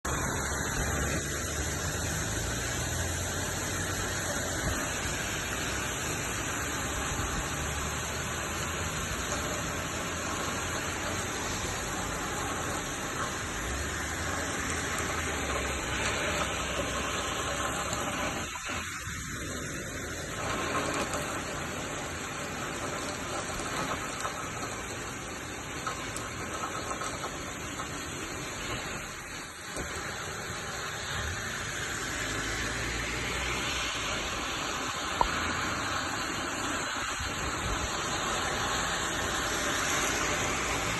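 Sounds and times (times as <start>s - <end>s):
heavy rain and wind: 0.0s - 40.9s.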